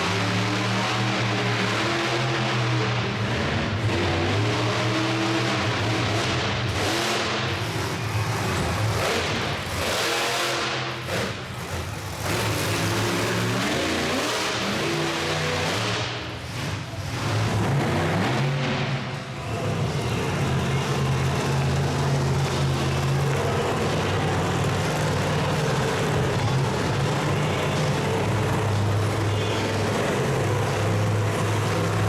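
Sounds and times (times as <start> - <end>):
monster truck engines revving: 0.0 - 32.0.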